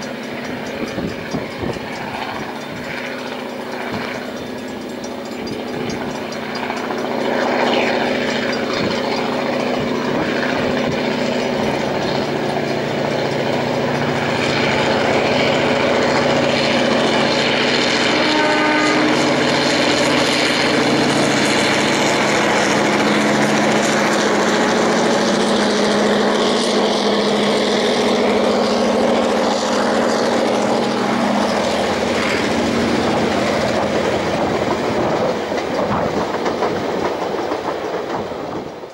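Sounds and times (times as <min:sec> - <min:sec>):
diesel locomotive under load: 0:00.0 - 0:38.9
train wheels clicking over rail joints: 0:00.0 - 0:38.9.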